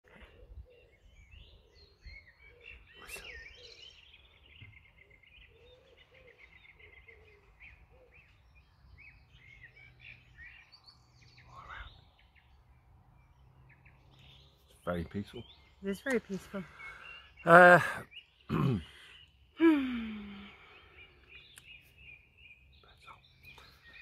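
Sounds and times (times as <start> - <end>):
lower repeated bird calls: 0.1 - 24.0
small birds chirping and trilling: 0.1 - 24.0.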